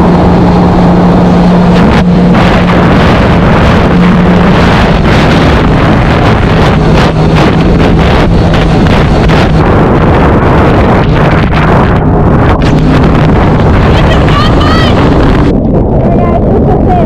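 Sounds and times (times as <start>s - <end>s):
jet ski engine drone: 0.0s - 16.7s
wind on microphone: 0.0s - 17.0s.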